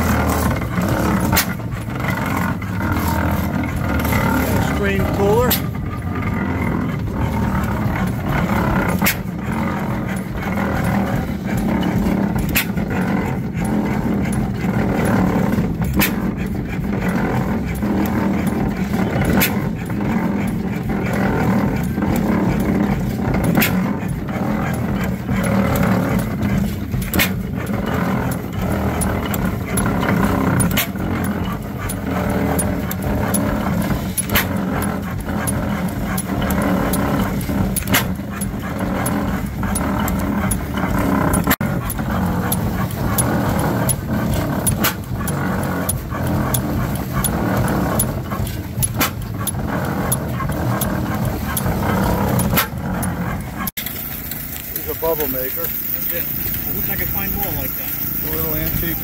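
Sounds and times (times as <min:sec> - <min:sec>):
engine mechanical clatter: 0:00.0 - 0:59.0.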